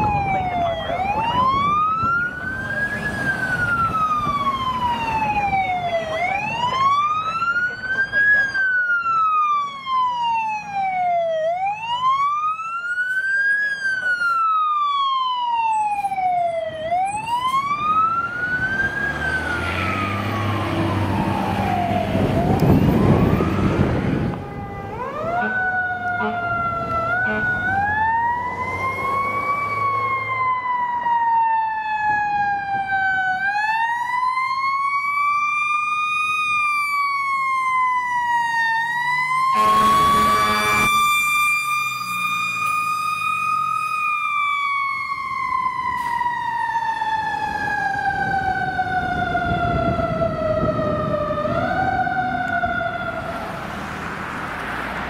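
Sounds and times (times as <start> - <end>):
truck engine and tyres passing: 0.0 - 15.0, 15.9 - 31.2, 34.0 - 55.0
fire truck siren wailing: 0.0 - 55.0.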